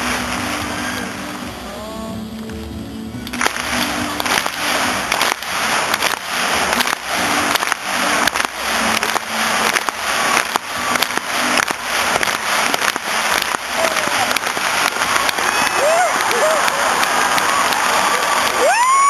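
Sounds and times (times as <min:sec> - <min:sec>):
faint low musical notes: 0:00.0 - 0:15.4
crowd clapping in time: 0:03.3 - 0:19.0.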